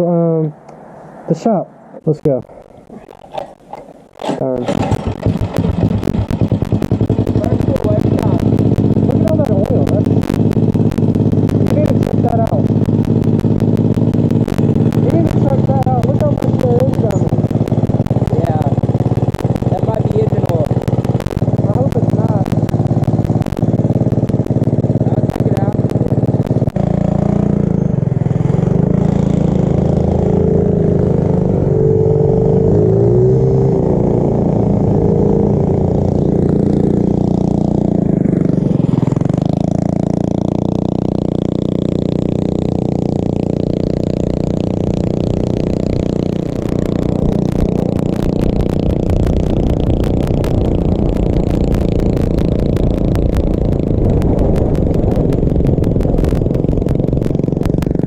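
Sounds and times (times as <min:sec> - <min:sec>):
mini bike engines running: 0:02.1 - 0:58.0.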